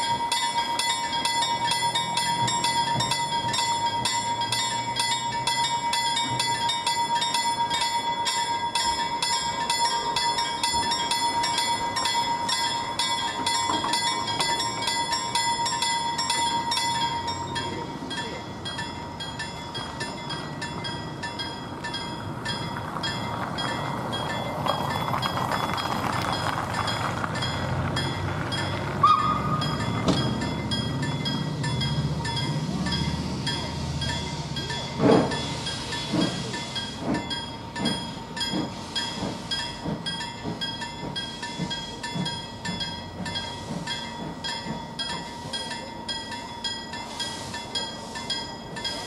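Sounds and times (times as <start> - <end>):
level-crossing bell ringing: 0.0 - 49.0
steam locomotive exhaust chuffs: 0.0 - 49.0.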